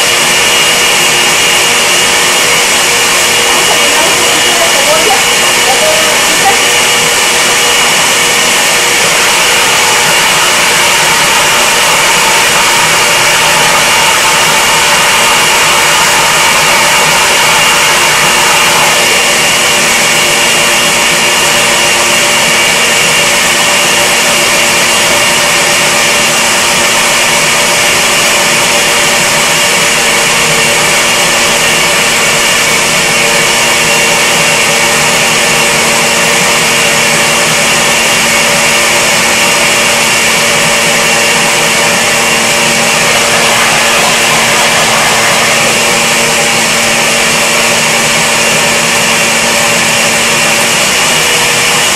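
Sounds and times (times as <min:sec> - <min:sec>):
blender motor running: 0:00.0 - 0:51.9.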